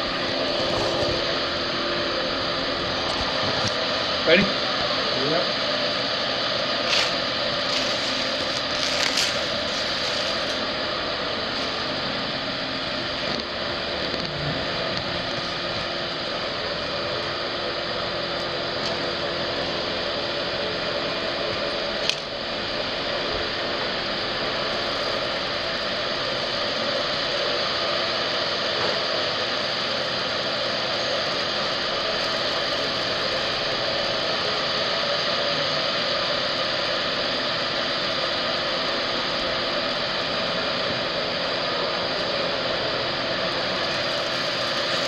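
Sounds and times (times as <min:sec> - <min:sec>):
ventilation machine hum: 0:00.0 - 0:45.0.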